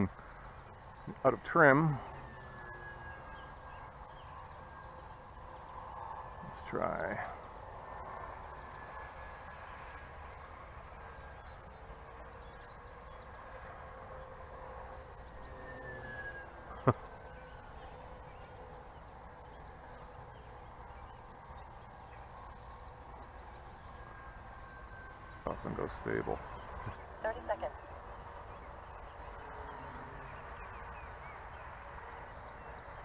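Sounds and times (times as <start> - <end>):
electric motor and propeller whining: 0.0 - 33.0.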